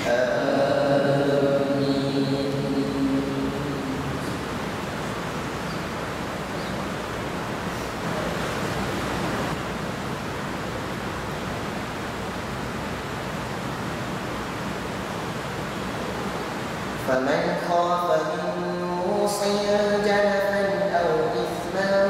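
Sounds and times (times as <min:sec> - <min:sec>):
room and recording hiss: 0:00.0 - 0:22.0.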